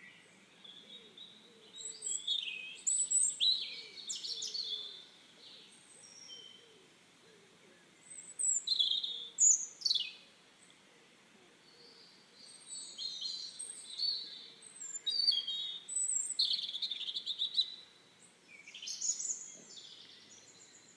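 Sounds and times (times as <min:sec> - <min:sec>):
birds singing: 0:00.0 - 0:20.9
faint background hiss: 0:00.0 - 0:20.9.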